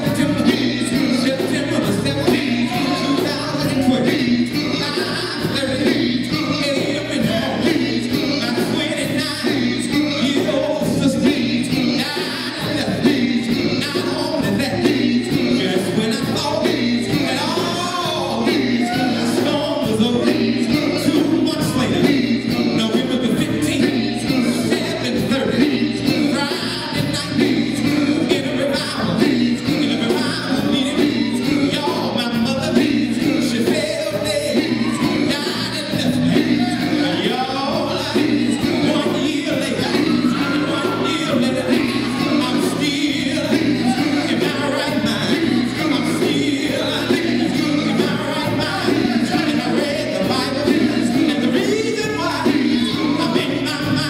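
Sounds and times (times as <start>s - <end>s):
electric guitars and bass: 0.0s - 54.0s
men singing: 0.0s - 54.0s.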